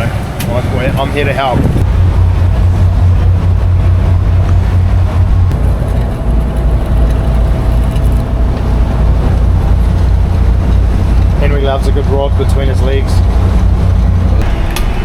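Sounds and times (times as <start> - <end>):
boat engine drone: 0.0 - 15.0
faint higher hum: 1.8 - 14.6.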